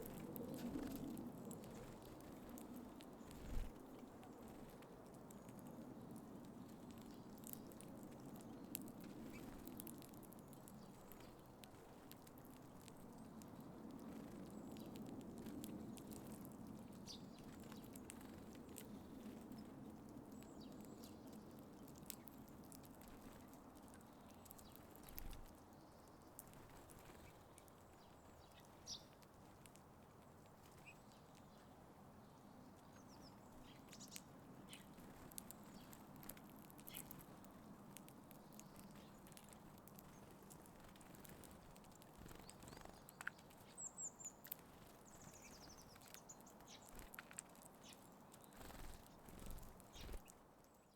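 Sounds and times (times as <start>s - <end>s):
birds pecking and tapping: 0.0s - 31.6s, 32.9s - 50.4s.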